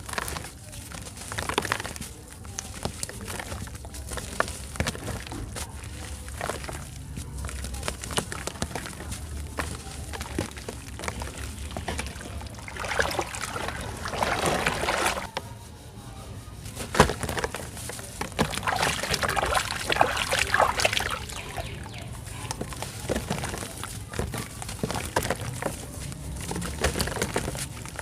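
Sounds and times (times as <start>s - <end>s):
sand crumbling and pouring: 0.0s - 15.3s, 16.9s - 28.0s.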